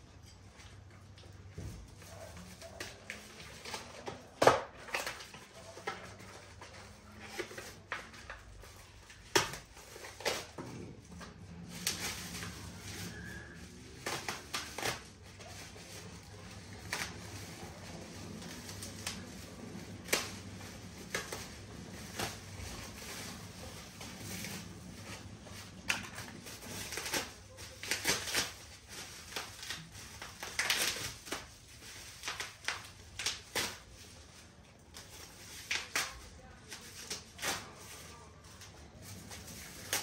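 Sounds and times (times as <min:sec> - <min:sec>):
cardboard and plastic packaging rustling: 0:00.2 - 0:40.0.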